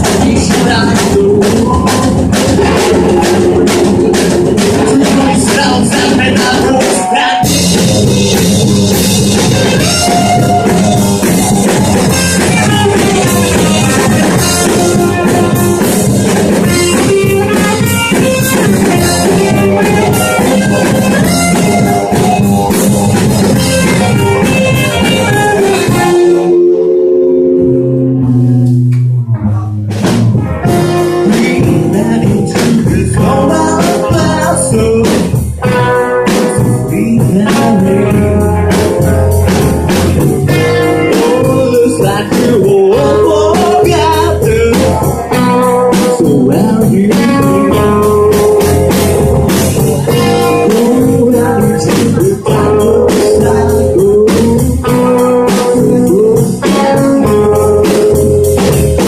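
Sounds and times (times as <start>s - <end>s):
drum hits: 0.0s - 6.9s, 7.5s - 26.3s, 29.9s - 52.4s
person singing: 0.0s - 7.9s, 9.5s - 22.8s, 30.6s - 39.3s, 40.4s - 59.0s
live rock band playing: 0.0s - 59.0s.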